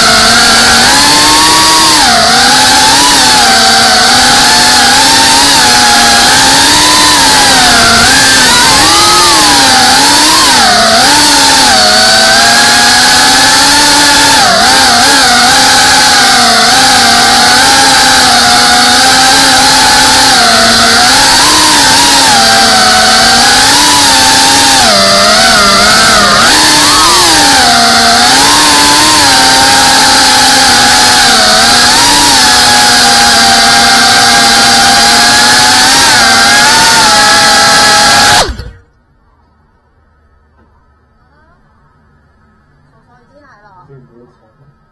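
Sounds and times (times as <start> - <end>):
drone motors whining: 0.0 - 39.1.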